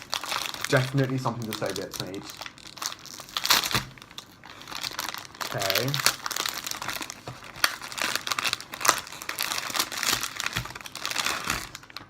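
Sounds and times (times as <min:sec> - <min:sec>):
snack wrapper crinkling and tearing: 0:00.0 - 0:12.0.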